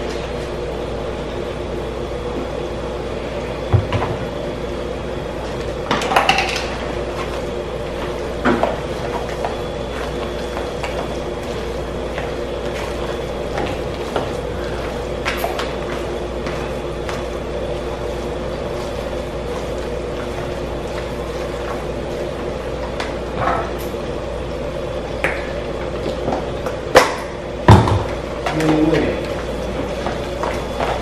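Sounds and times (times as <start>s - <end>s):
kitchen hum: 0.0s - 31.0s.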